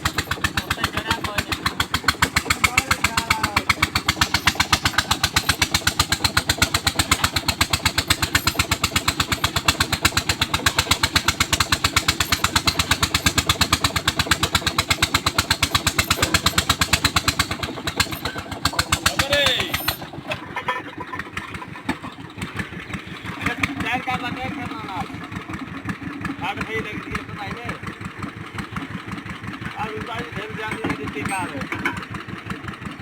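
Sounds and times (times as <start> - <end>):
engine chugging: 0.0 - 33.0.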